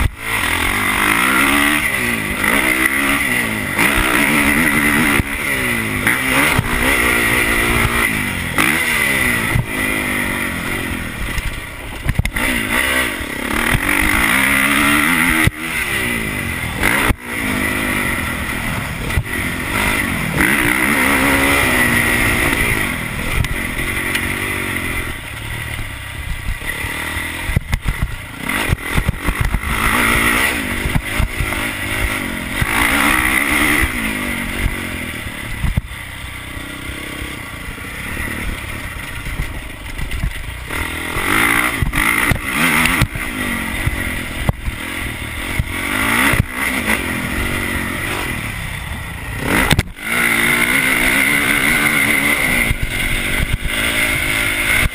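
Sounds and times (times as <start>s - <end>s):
motorbike engine revving: 0.0s - 54.9s.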